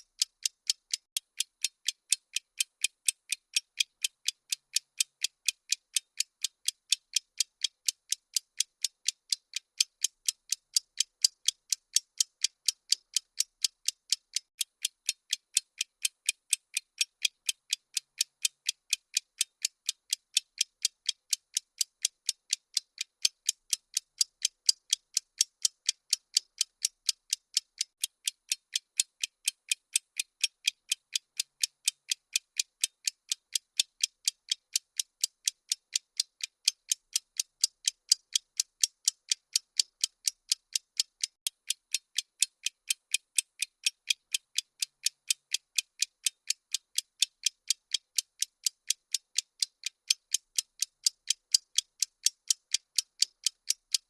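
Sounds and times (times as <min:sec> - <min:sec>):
high clock-like ticks: 0:00.0 - 0:54.0.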